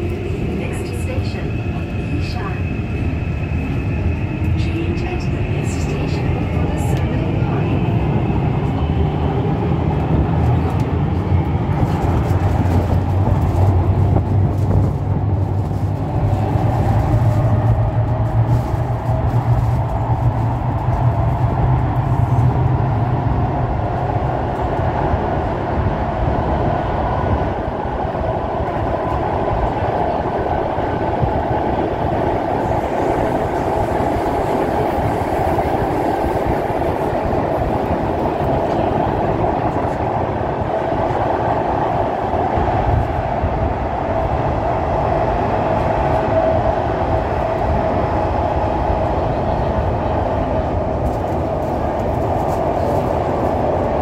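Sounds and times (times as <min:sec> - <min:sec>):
train rolling rumble: 0:00.0 - 0:54.0.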